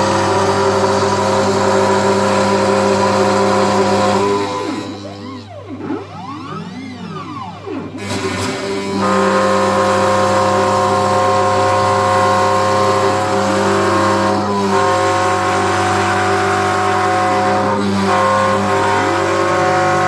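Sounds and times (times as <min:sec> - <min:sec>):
router spindle whine milling wood: 0:00.0 - 0:20.0.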